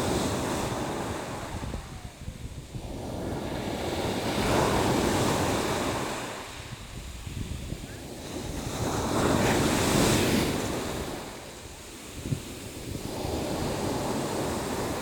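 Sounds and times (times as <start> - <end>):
sea waves surging and washing back: 0.0 - 15.0.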